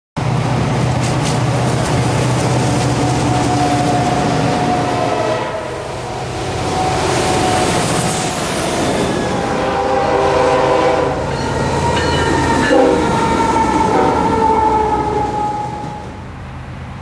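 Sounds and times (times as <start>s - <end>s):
diesel locomotive engines: 0.2s - 17.0s
train rumble: 0.2s - 17.0s.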